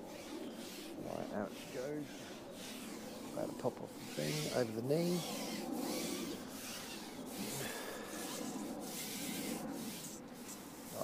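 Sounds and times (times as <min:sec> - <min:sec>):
fishing pole rubbing against clothing: 0:00.0 - 0:11.0.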